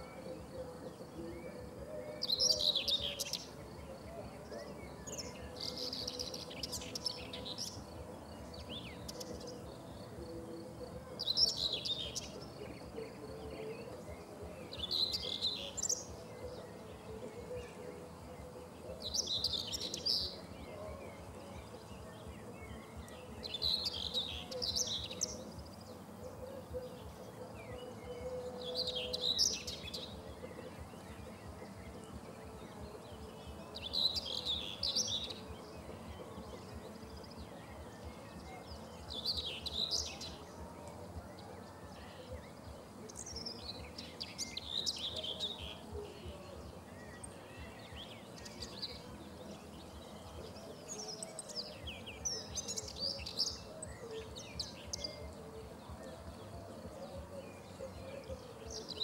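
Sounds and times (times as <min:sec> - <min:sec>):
bird singing warbling phrases: 0:00.0 - 0:59.0.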